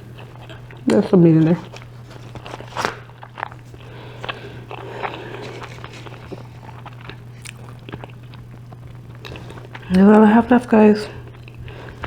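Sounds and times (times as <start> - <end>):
chewing and biting food: 0.0 - 10.3, 11.1 - 12.0
steady low hum: 0.0 - 12.0.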